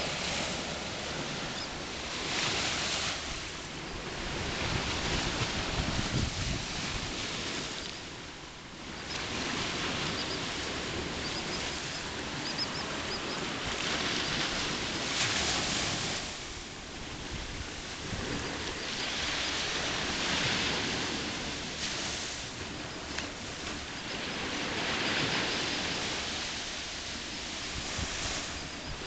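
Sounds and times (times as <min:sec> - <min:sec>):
wind on microphone: 0:00.0 - 0:08.0, 0:08.7 - 0:29.0
ocean surf on beach: 0:00.0 - 0:29.0.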